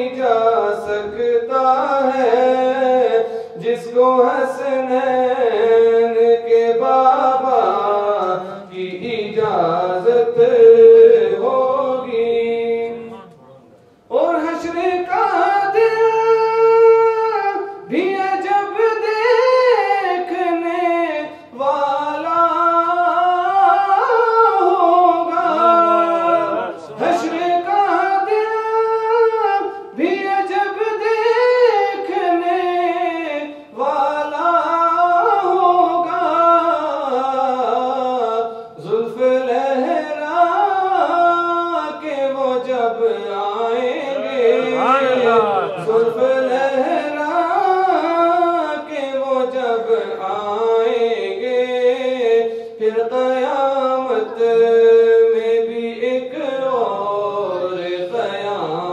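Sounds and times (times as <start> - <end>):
man singing unaccompanied: 0.0 - 58.9.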